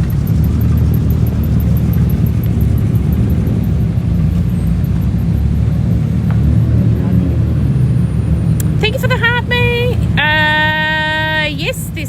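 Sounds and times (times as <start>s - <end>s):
car engine rumbling at low revs: 0.0s - 12.0s.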